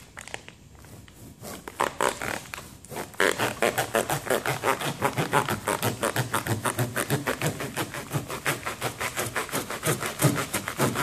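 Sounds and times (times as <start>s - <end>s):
bread knife sawing through wrap: 1.2s - 11.0s.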